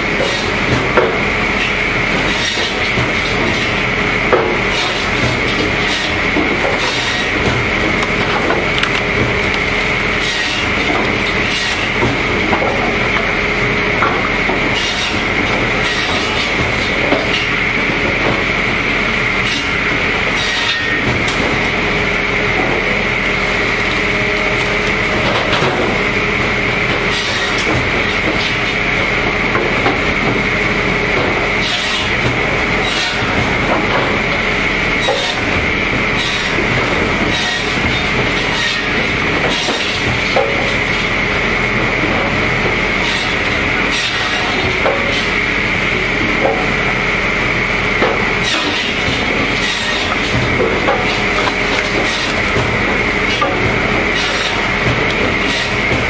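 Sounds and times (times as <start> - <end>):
firewood processor running: 0.0 - 56.0.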